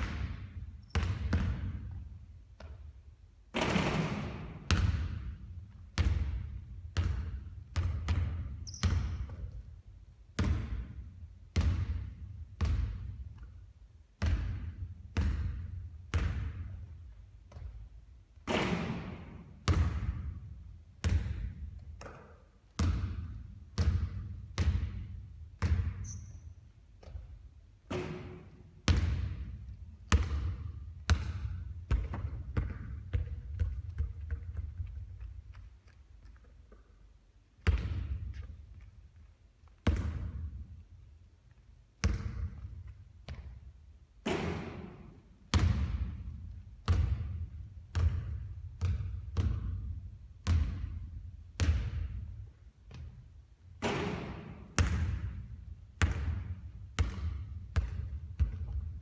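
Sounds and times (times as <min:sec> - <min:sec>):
basketball bouncing: 0:00.0 - 0:02.9, 0:03.5 - 0:09.7, 0:10.4 - 0:13.6, 0:14.2 - 0:16.9, 0:17.5 - 0:26.4, 0:27.0 - 0:35.5, 0:37.6 - 0:38.8, 0:39.8 - 0:40.7, 0:42.0 - 0:43.6, 0:44.2 - 0:51.0, 0:51.6 - 0:53.2, 0:53.8 - 0:59.0.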